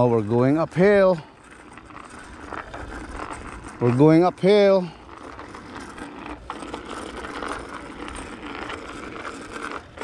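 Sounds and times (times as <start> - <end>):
bicycle tyre and wind rushing: 0.0 - 10.0.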